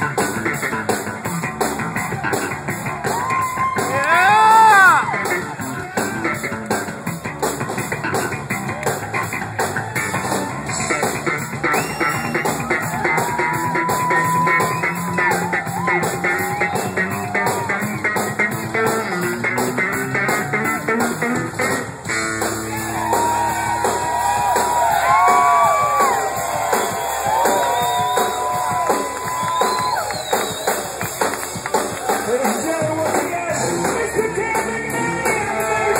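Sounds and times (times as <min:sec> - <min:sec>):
live rock band playing: 0:00.0 - 0:35.9.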